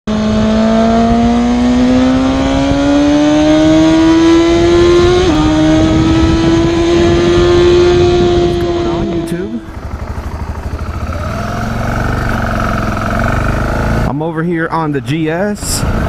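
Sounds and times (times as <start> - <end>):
motorcycle accelerating: 0.1 - 14.3, 15.6 - 16.0.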